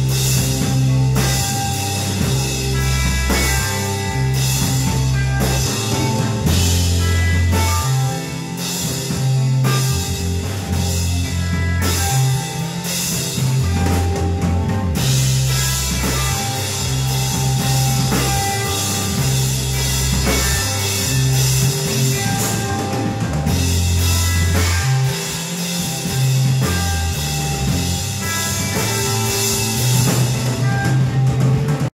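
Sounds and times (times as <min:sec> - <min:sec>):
held low bass notes: 0:00.0 - 0:31.9
rock band playing: 0:00.0 - 0:31.9
steady drumming: 0:00.0 - 0:31.9.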